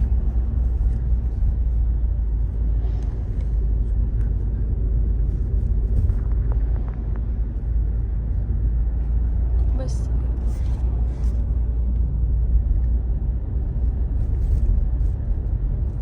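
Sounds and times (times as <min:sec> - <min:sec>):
road rumble inside moving car: 0:00.0 - 0:16.0.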